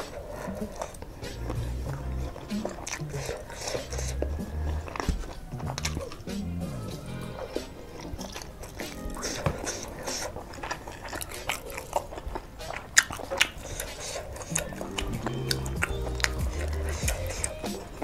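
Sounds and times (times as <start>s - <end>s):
chewing with wet mouth smacks: 0.0s - 18.0s
soft background music: 0.0s - 18.0s.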